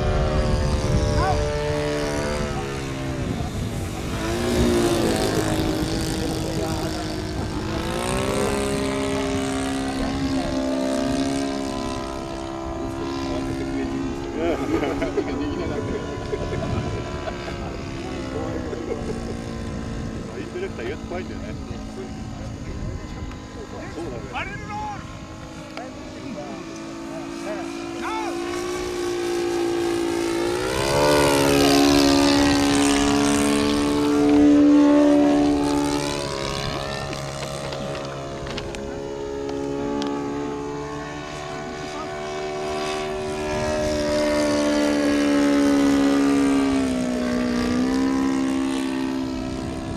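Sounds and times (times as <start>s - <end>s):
model airplane engine droning: 0.0s - 49.9s.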